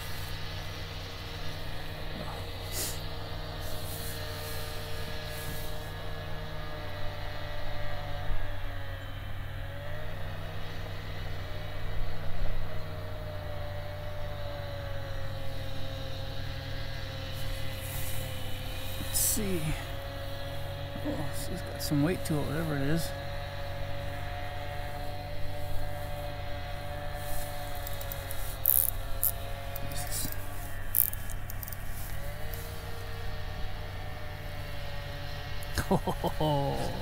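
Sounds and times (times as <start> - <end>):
electric motor humming: 0.0 - 37.0.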